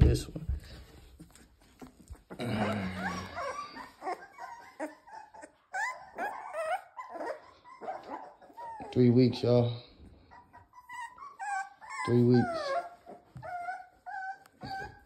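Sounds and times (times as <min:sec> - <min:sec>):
puppy whining and yelping: 0:00.9 - 0:15.0.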